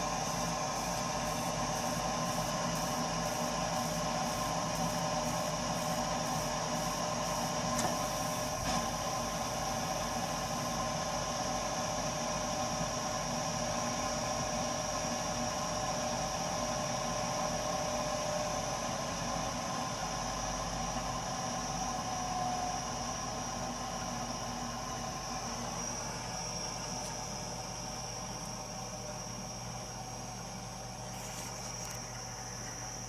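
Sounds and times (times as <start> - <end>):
boiler hiss and low hum: 0.0 - 33.0
boiler whine of high tones: 0.0 - 33.0.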